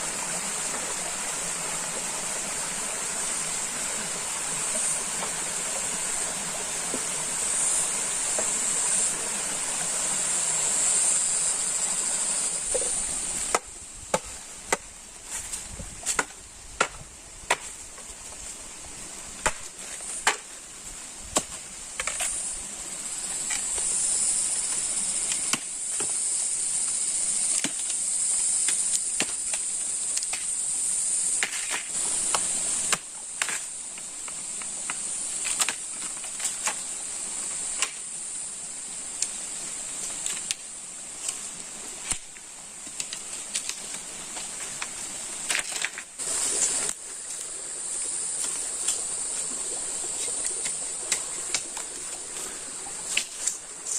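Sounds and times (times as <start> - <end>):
rushing hiss: 0.0 - 16.2, 17.1 - 53.9
insect drone: 0.0 - 53.9.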